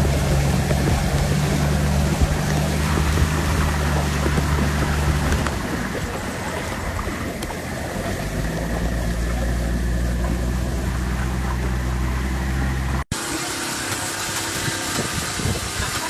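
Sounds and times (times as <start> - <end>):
vehicle engine humming: 0.0 - 16.0
water rushing: 0.0 - 16.0.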